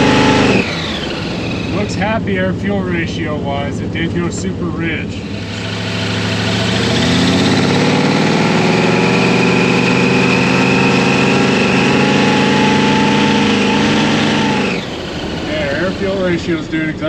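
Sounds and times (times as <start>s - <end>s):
supercharged engine revving: 0.0s - 17.0s
supercharger whine: 0.0s - 17.0s.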